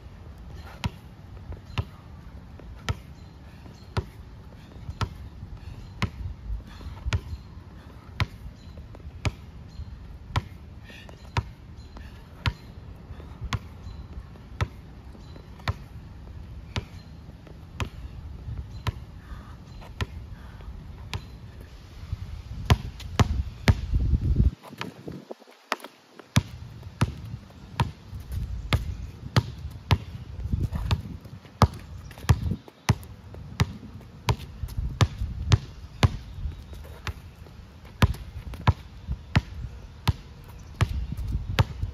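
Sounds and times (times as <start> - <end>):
basketball bouncing on asphalt: 0.4 - 21.6, 22.6 - 41.9.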